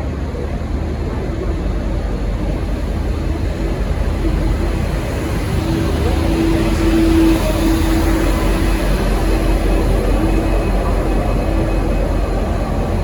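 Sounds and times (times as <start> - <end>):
diesel locomotive engine rumble: 0.0 - 13.0
high whine: 1.9 - 13.0.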